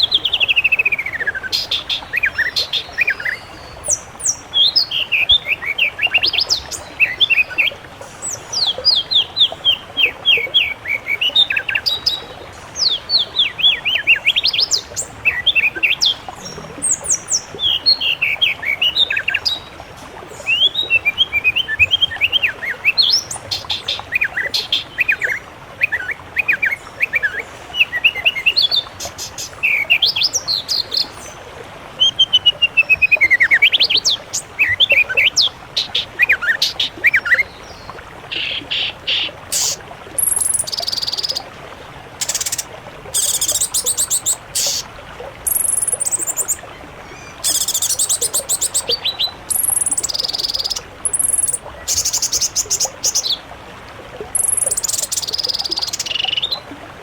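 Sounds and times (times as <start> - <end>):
songbirds singing: 0.0 - 31.4, 32.0 - 41.4, 42.2 - 53.4, 54.3 - 56.6.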